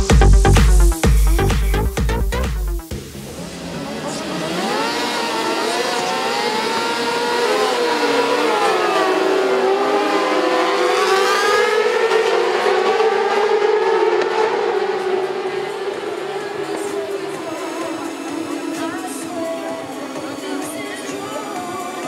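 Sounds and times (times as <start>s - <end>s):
motorcycle engines revving: 2.8s - 22.0s.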